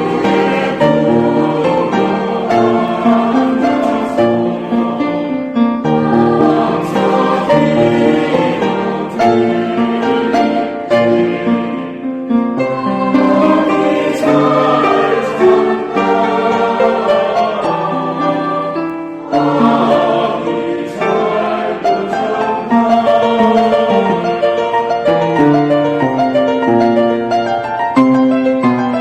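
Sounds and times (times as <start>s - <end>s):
choir singing a hymn: 0.0s - 27.6s
instrumental accompaniment: 0.0s - 29.0s.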